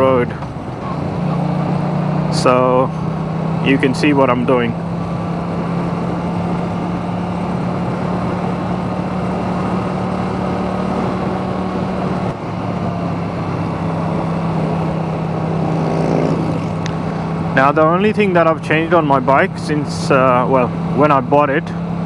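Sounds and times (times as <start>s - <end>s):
motorcycle engine rumble: 0.0s - 22.0s.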